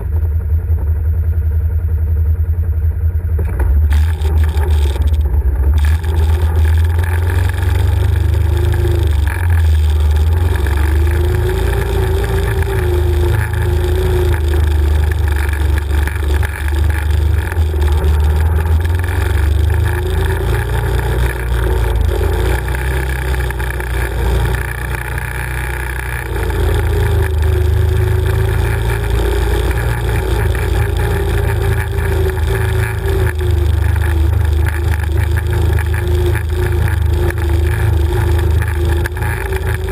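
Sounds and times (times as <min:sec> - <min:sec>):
quad bike engine revving: 0:03.3 - 0:39.9.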